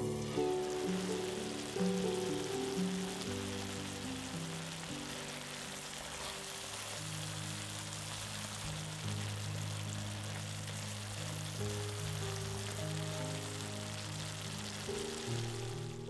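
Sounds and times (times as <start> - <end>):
low held notes music: 0.0 - 16.0
sauce sizzling in frying pan: 0.0 - 16.0.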